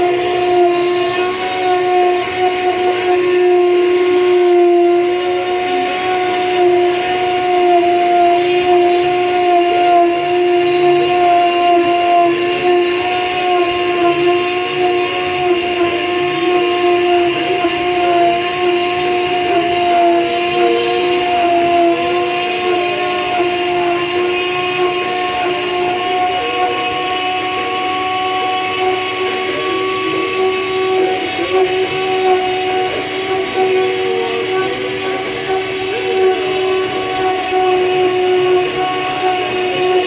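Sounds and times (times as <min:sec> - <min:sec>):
router motor whining: 0:00.0 - 0:40.0.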